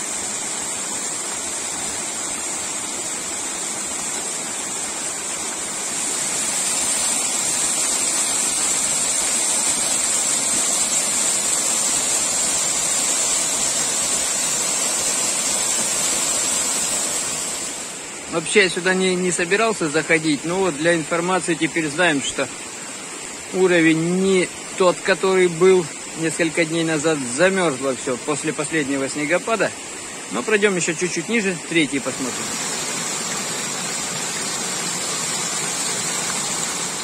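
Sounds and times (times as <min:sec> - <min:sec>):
waterfall splashing: 0:00.0 - 0:37.0.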